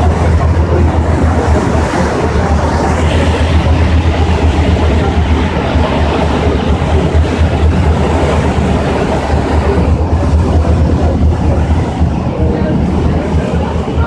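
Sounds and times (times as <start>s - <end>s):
ferry engine drone: 0.0s - 14.0s.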